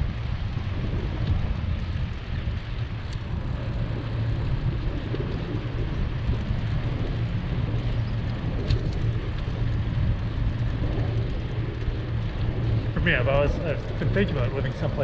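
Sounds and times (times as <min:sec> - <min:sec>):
faint ticks: 0:00.0 - 0:15.0
road noise: 0:00.0 - 0:15.0
wind buffeting microphone: 0:00.0 - 0:15.0.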